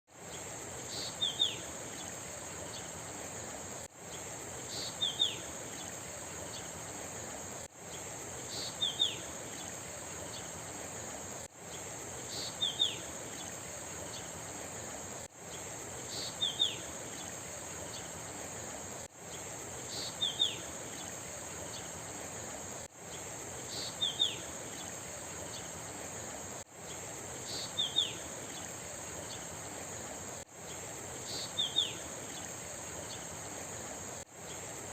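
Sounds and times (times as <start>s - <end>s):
insect drone: 0.1s - 34.9s
river water flowing: 0.1s - 34.9s.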